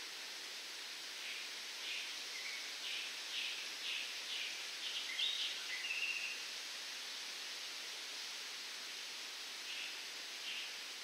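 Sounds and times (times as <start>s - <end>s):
wind rustling palm fronds: 0.0s - 11.0s.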